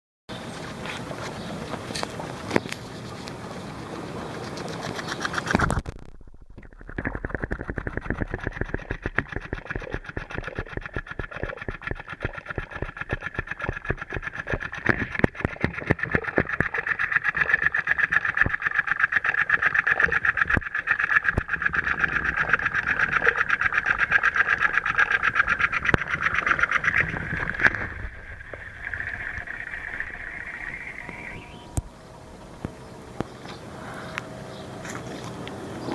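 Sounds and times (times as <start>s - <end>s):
rapid clicking: 1.8s - 31.9s.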